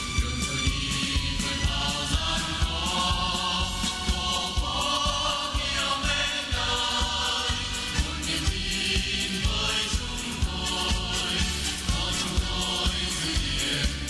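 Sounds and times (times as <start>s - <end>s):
backing track with steady beat: 0.0s - 14.0s
group singing: 0.3s - 14.0s.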